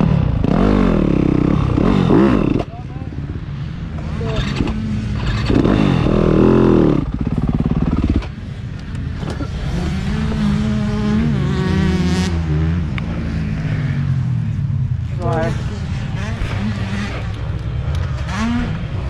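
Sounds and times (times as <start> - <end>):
motocross bike engine revving: 0.0 - 2.9, 3.5 - 19.0.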